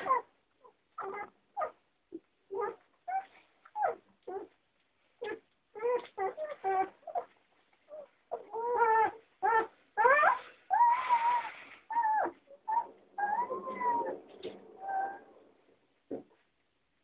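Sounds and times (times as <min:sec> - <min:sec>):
puppies whining and yelping: 0:00.0 - 0:04.6, 0:05.2 - 0:15.6.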